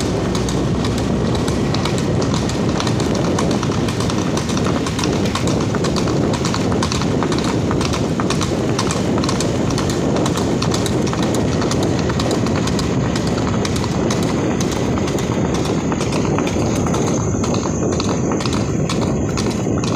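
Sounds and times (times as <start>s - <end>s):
horse hooves clip-clopping on road: 0.0s - 19.9s
steady low rumble: 0.0s - 19.9s.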